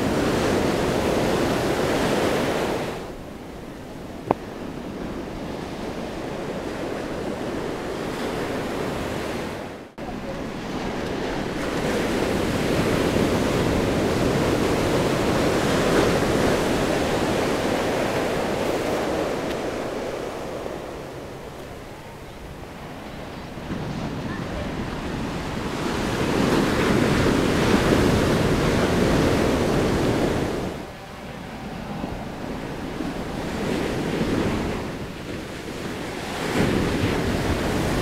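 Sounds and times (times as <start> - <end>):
ocean waves breaking on beach: 0.0 - 38.0.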